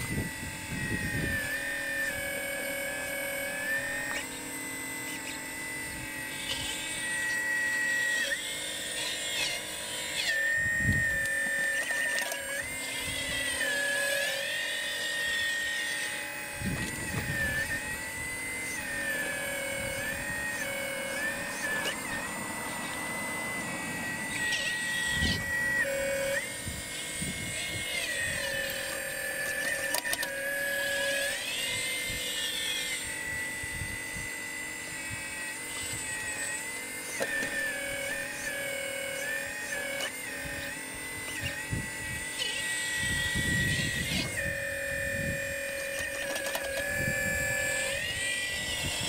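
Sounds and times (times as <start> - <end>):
hydraulic pump whine: 0.0 - 49.0.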